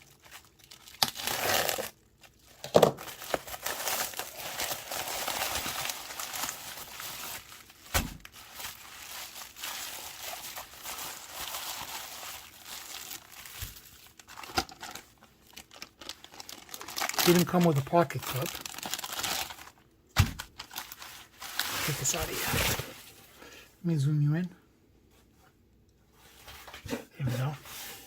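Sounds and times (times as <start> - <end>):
packaging crinkling and rustling: 0.0 - 23.3.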